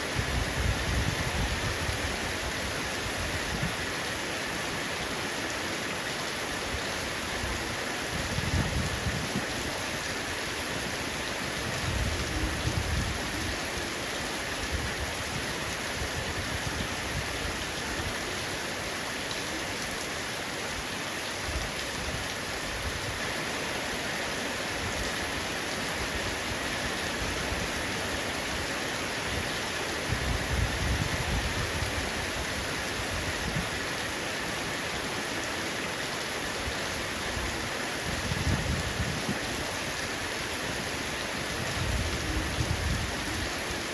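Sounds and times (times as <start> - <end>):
heavy rain on a roof: 0.0 - 43.9.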